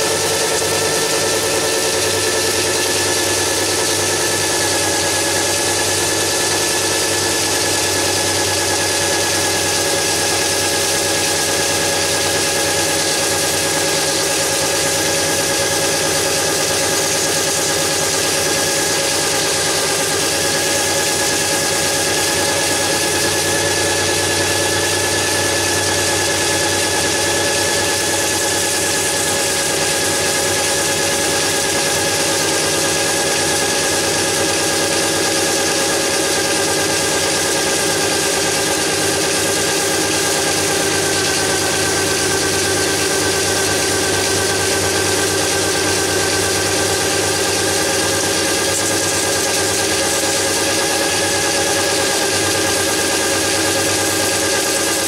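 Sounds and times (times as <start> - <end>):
electric drill motor whine: 0.0 - 55.0.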